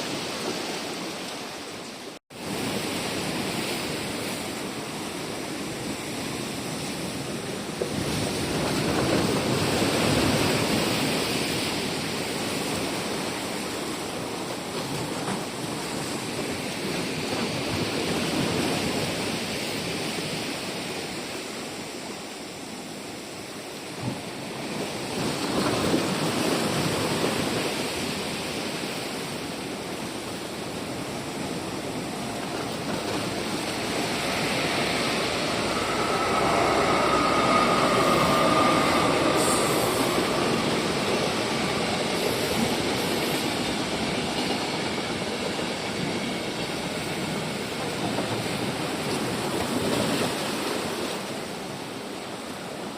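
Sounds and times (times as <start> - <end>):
train rolling rumble: 0.0 - 52.9.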